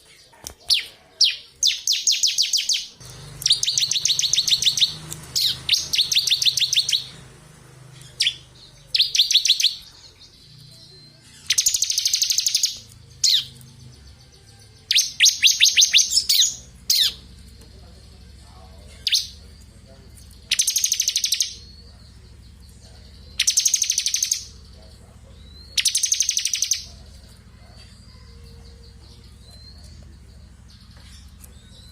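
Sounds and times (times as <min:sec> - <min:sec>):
short bird notes: 0:00.6 - 0:14.0, 0:14.8 - 0:27.4
bird singing high trills: 0:00.7 - 0:31.9.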